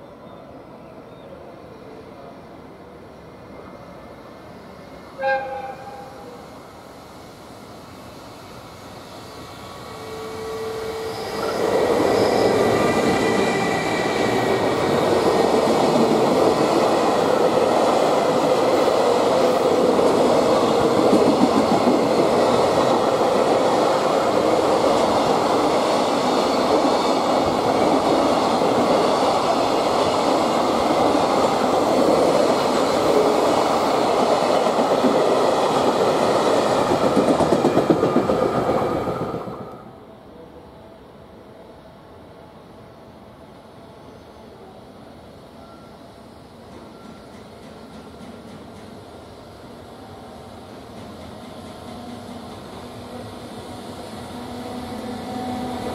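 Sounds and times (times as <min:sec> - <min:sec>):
freight train passing: 0:00.0 - 0:55.9.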